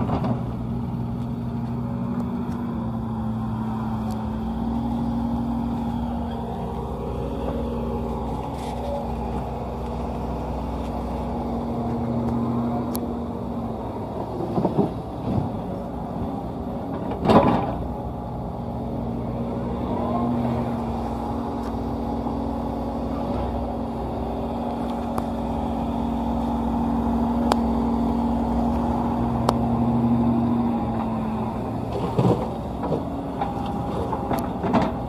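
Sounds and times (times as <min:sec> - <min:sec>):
heavy diesel engines running: 0:00.0 - 0:35.0.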